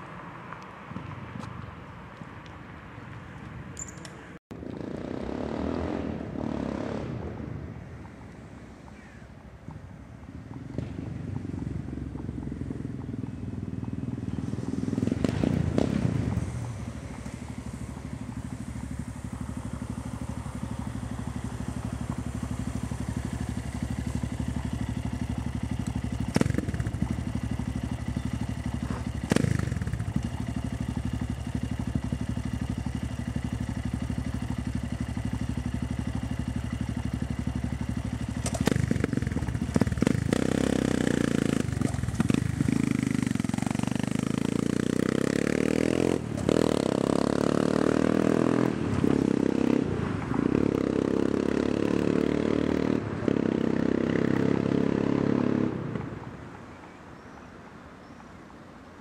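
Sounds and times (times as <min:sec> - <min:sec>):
motorcycle engine idling and revving: 0:00.0 - 0:57.4.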